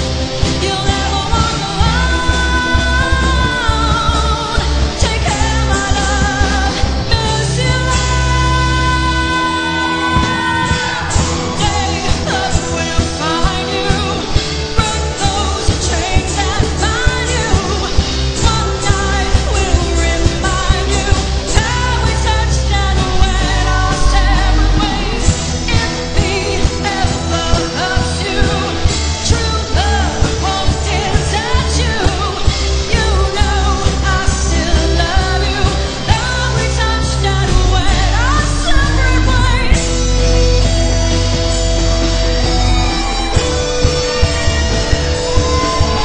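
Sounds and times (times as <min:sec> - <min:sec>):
lead vocal singing: 0:00.0 - 0:46.0
live band playing pop-rock: 0:00.0 - 0:46.0
steady drum beat: 0:00.0 - 0:46.0.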